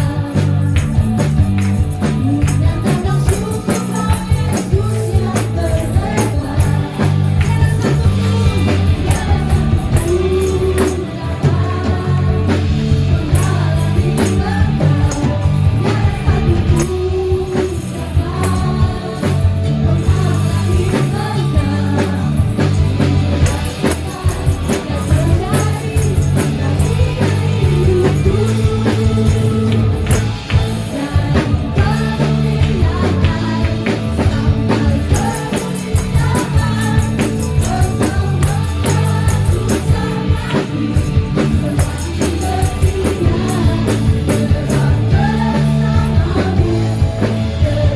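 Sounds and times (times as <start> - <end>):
person singing: 0.0 - 1.2, 2.0 - 47.9
band playing: 0.0 - 47.9
tambourine jingles: 0.0 - 47.9.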